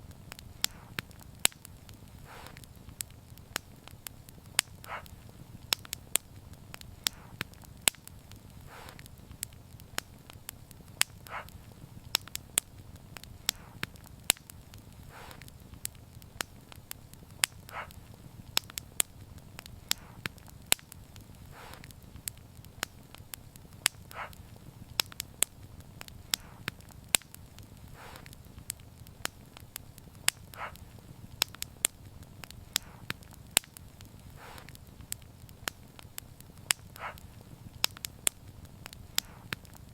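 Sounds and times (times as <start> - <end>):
low rumble of flames: 0.0 - 39.9
wood fire crackling: 0.0 - 39.9
sharp pops: 0.1 - 39.9.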